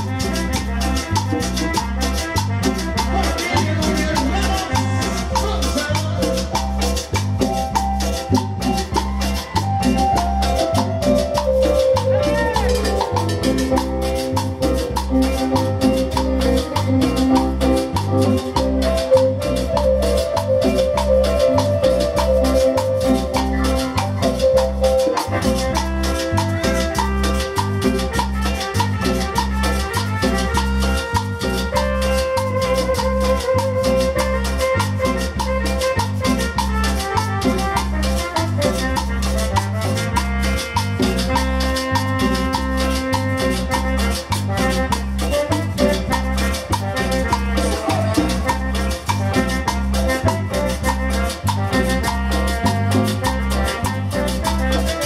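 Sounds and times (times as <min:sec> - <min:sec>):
bass: 0:00.0 - 0:55.0
congas: 0:00.0 - 0:55.0
electric guitar: 0:00.0 - 0:55.0
keyboard: 0:00.0 - 0:55.0.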